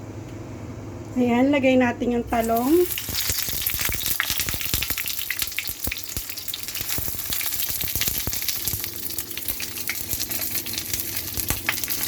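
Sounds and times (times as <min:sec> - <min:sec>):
eggplant frying in hot oil: 0:02.3 - 0:12.0.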